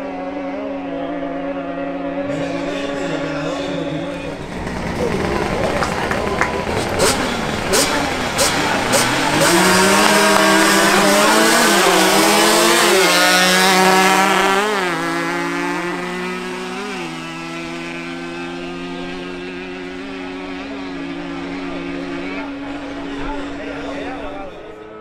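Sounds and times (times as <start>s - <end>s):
two-stroke engines accelerating: 0.0s - 25.0s.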